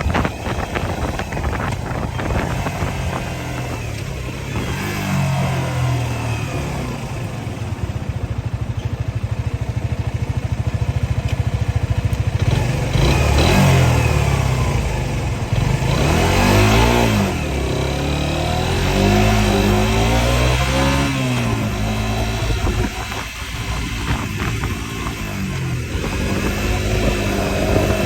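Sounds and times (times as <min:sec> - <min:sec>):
engine revving: 0:00.0 - 0:08.1, 0:12.4 - 0:28.0.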